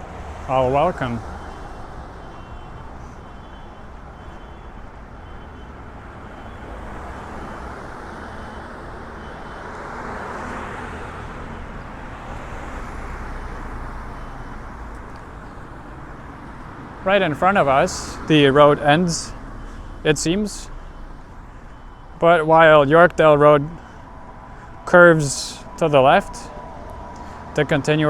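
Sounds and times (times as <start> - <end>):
cars passing: 0.0 - 28.0.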